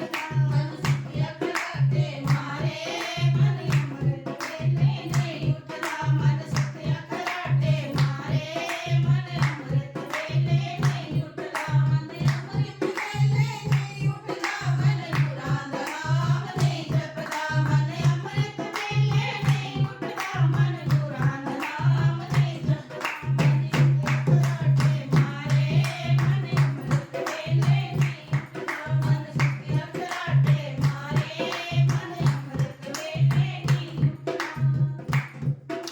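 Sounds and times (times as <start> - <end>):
rhythmic hand clapping: 0.0 - 35.9
steady drum beat: 0.0 - 35.9.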